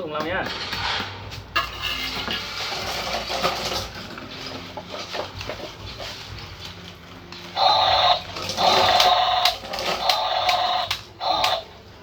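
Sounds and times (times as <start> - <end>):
small electric motors whirring: 0.5 - 11.7.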